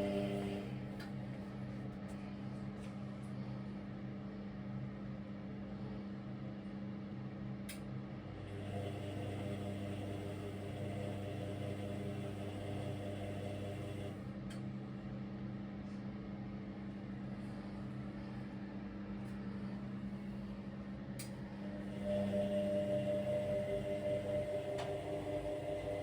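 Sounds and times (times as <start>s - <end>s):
washing machine motor hum: 0.0s - 5.2s, 7.5s - 26.0s.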